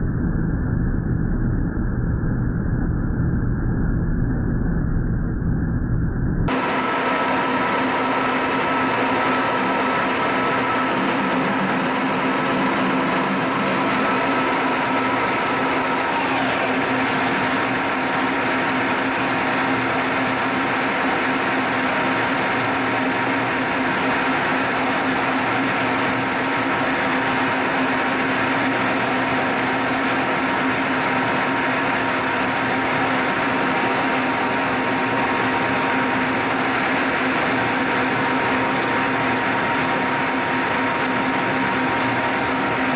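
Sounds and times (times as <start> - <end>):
high whine falling in pitch: 0.0 - 42.9
milling machine humming: 6.5 - 42.9.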